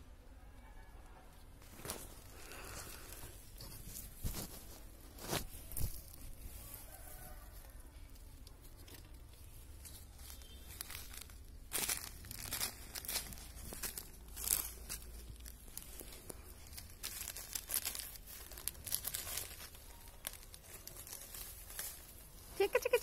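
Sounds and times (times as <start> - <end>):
plastic sheeting crinkling: 1.6 - 23.0.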